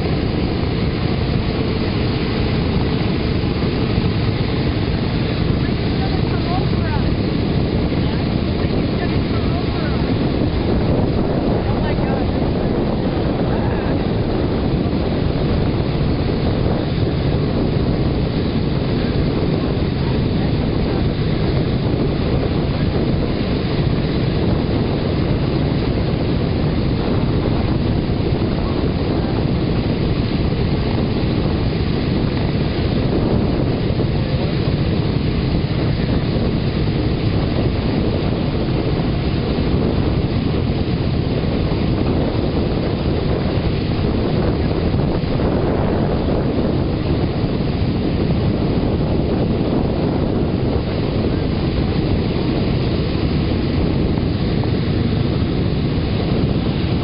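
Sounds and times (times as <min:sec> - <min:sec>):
radial aircraft engines rumbling: 0:00.0 - 0:57.0
wind buffeting microphone: 0:00.0 - 0:57.0.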